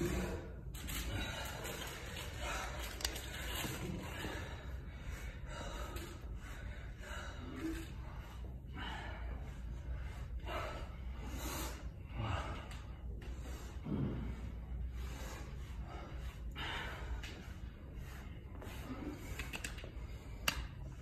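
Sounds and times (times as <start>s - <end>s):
person breathing hard: 0.0s - 21.0s
steady low hum: 0.0s - 21.0s.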